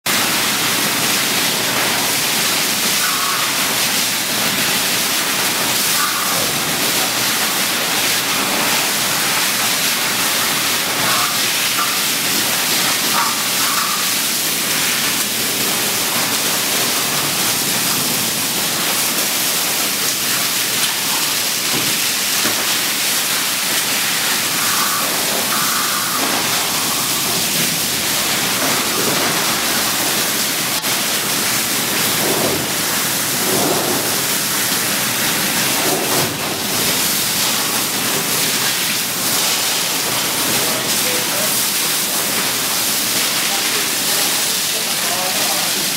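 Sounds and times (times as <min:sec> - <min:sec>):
fire hose spraying water: 0:00.1 - 0:45.9.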